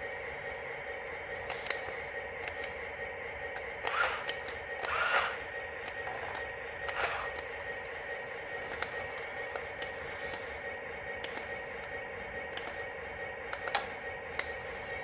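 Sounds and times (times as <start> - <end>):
toy truck motors whirring: 1.2 - 2.9, 3.5 - 11.8, 12.5 - 15.0.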